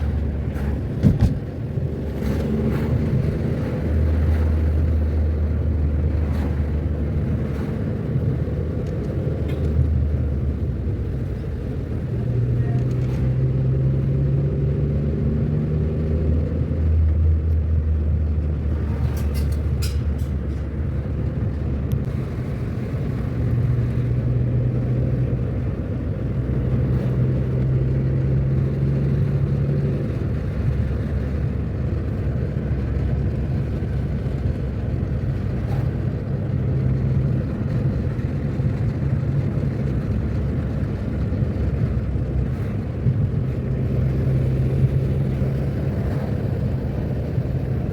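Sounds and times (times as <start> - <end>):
car engine hum: 0.0 - 47.9
road and tyre noise: 0.0 - 47.9.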